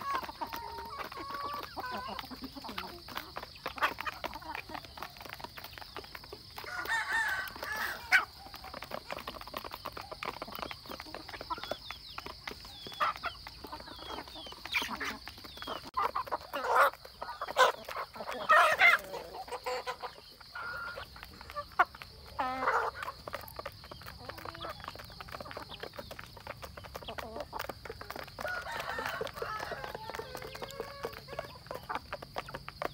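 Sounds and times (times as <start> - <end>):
beaks pecking at feed dishes: 0.0 - 32.9
chickens clucking and calling: 0.0 - 32.9.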